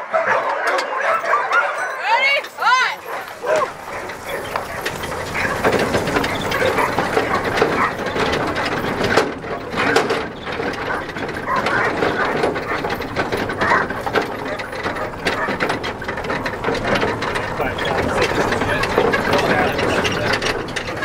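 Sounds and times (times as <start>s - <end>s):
cart rattling over gravel: 1.0s - 21.0s.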